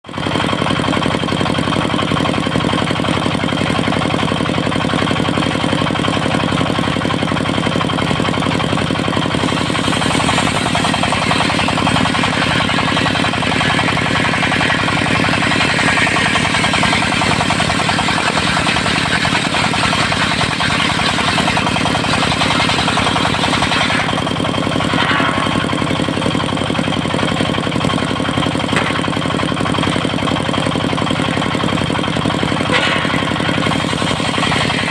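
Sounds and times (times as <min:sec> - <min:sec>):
diesel engine running: 0:00.0 - 0:34.9
circular saw cutting wood: 0:03.7 - 0:31.3, 0:32.2 - 0:34.9.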